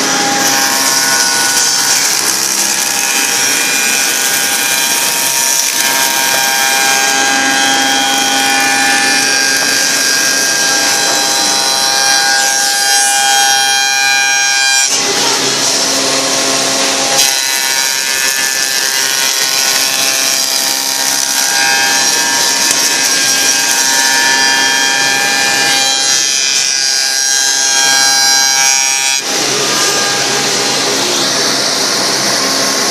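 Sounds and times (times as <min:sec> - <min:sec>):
milling machine cutters whining: 0:00.0 - 0:13.6, 0:14.4 - 0:32.9.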